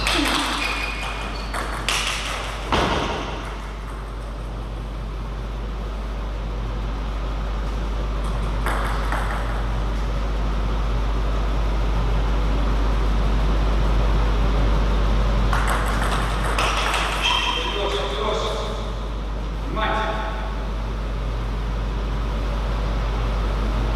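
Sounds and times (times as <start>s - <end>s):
low electrical hum: 0.0s - 23.9s.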